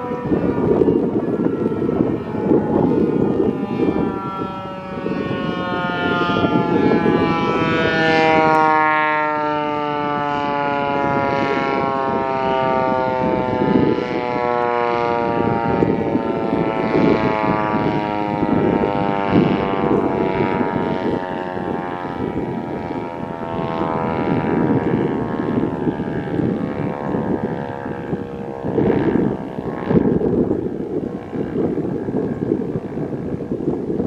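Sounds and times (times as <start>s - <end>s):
warning siren falling in pitch: 0.0s - 33.3s
low rumbling noise: 0.0s - 34.0s.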